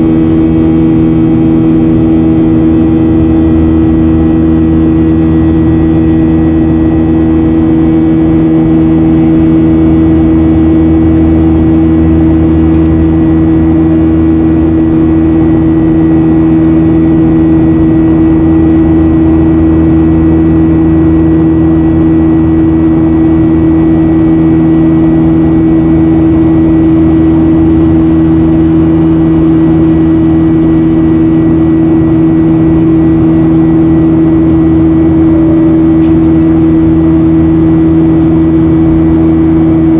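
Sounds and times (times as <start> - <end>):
buzzing engine hum: 0.0 - 39.9
jet engine drone in cabin: 0.0 - 39.9.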